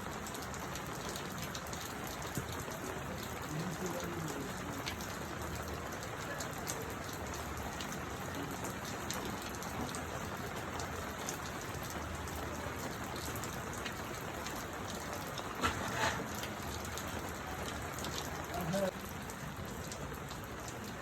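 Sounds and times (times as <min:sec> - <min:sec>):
sharp raindrop hits: 0:00.0 - 0:21.0
steady rain hiss: 0:00.0 - 0:21.0.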